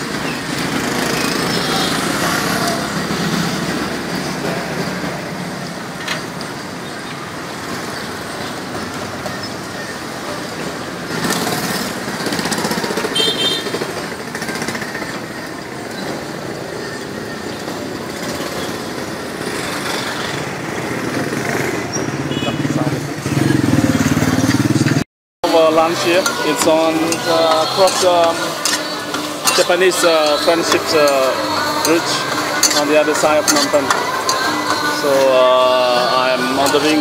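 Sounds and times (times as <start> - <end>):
street traffic: 0.0 - 37.0.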